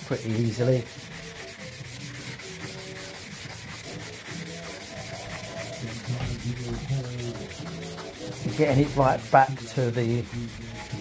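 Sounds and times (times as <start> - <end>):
sanding pad scrubbing stone: 0.0 - 11.0.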